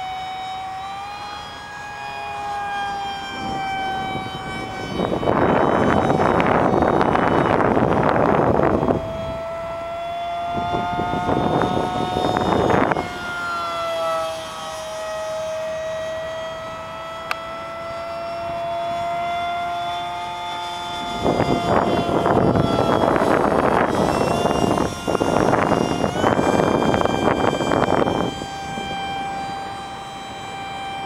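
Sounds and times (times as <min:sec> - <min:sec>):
aircraft engine whine overhead: 0:00.0 - 0:31.0
wind buffeting microphone: 0:01.5 - 0:31.0.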